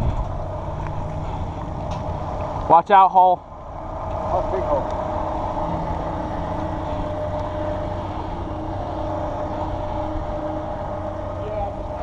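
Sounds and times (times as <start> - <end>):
steady hum: 0.0 - 12.0
wind rumbling on microphone: 0.0 - 12.0.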